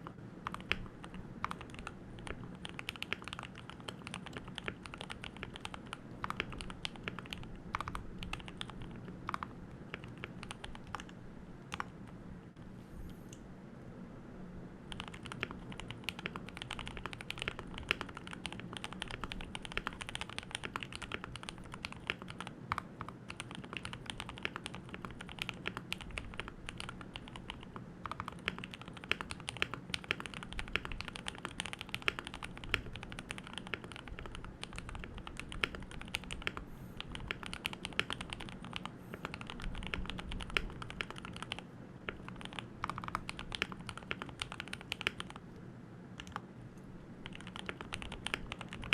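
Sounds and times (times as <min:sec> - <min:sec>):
typing on mechanical keyboard: 0:00.0 - 0:12.0, 0:14.9 - 0:45.4, 0:47.2 - 0:48.9.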